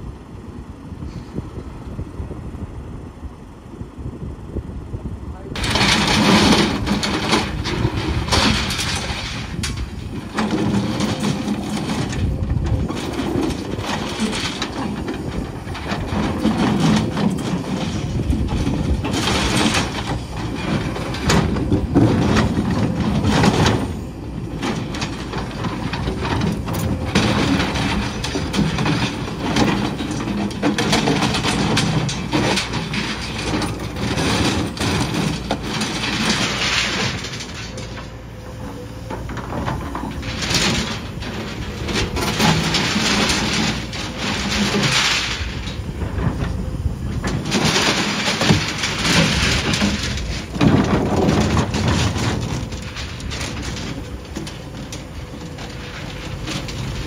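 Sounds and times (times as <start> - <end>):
excavator engine and hydraulics: 0.0 - 57.0
metal clatters and clanks: 5.3 - 57.0.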